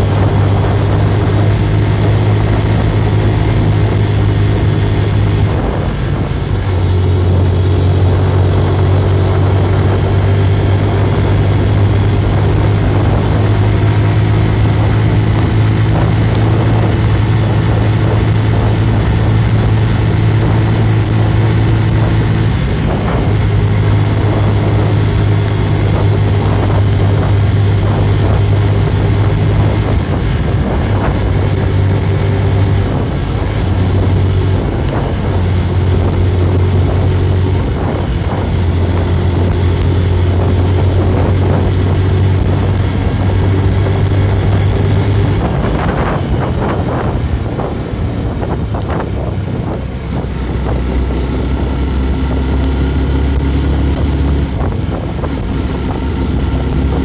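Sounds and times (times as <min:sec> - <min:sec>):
road noise: 0:00.0 - 0:57.0
vehicle engine cruising: 0:00.0 - 0:57.0.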